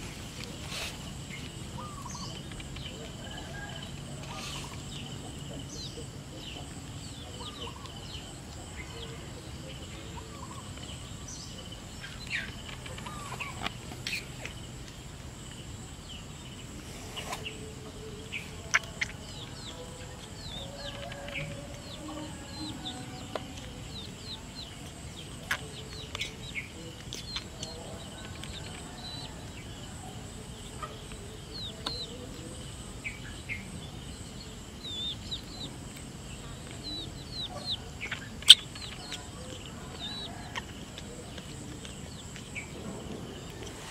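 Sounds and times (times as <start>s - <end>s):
birds chirping: 0.0s - 43.9s
chickens clucking: 0.0s - 43.9s.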